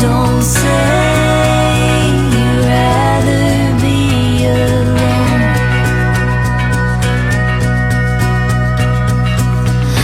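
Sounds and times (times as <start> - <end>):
instrumental song with steady beat: 0.0 - 10.0.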